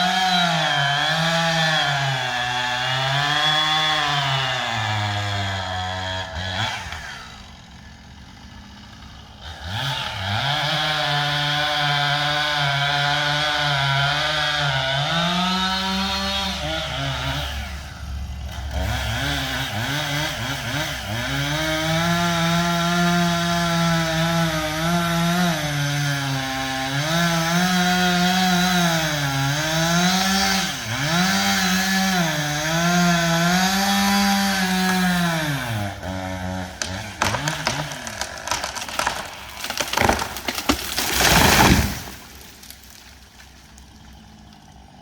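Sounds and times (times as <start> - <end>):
chainsaw cutting wood: 0.0 - 45.0
wood cracking and splitting: 0.0 - 45.0.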